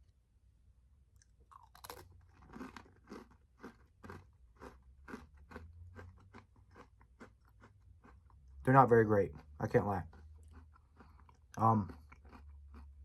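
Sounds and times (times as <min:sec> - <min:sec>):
crisp cookie crunching: 0:01.0 - 0:13.0.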